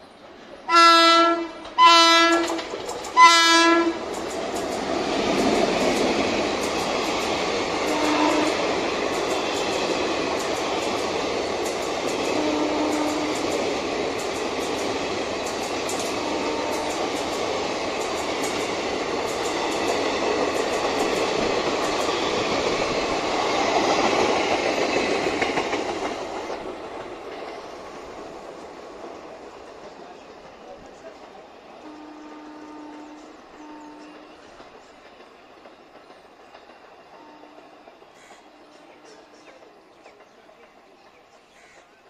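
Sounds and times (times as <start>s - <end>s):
train wheels rushing on rails: 0.0s - 42.0s.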